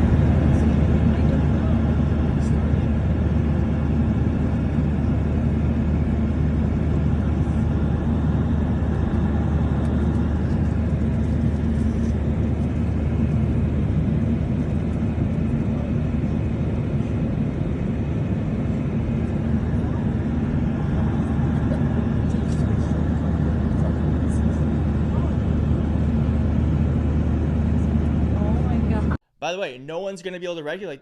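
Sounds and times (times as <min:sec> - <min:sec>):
airliner cabin drone: 0:00.0 - 0:29.2.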